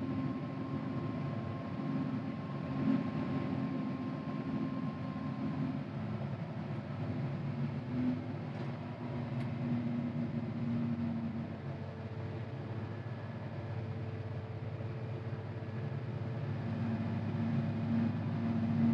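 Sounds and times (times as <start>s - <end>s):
diesel engine under load: 0.0s - 18.9s.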